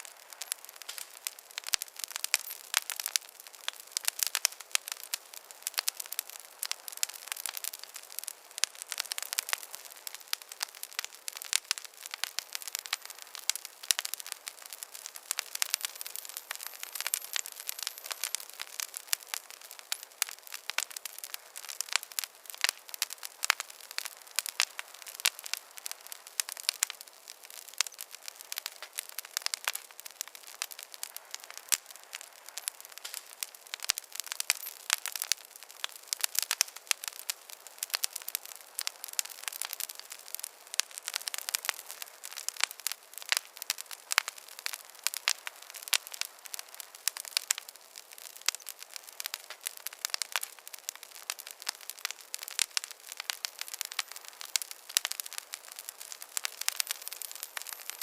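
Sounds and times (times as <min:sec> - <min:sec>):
soft hiss: 0:00.0 - 0:58.0
wood fire crackling: 0:00.0 - 0:58.0.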